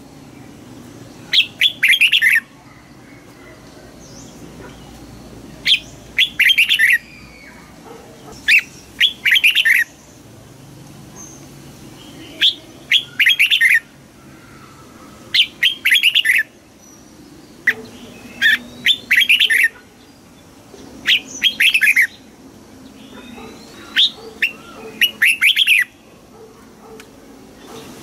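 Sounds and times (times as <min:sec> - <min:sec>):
bulbul singing: 0:00.2 - 0:10.3, 0:11.2 - 0:26.2.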